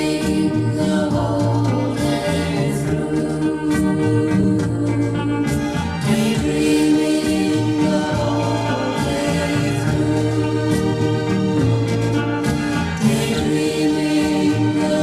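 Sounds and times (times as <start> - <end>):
bass line: 0.0 - 15.0
vocal group singing pop: 0.0 - 15.0.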